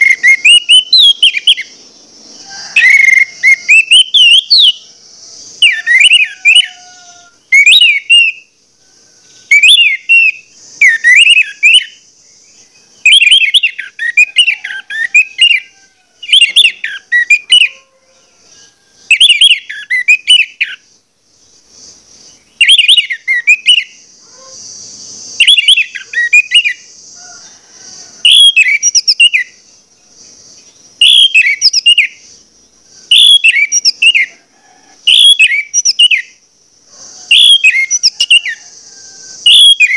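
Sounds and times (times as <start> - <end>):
faint high hiss: 0.0 - 39.9.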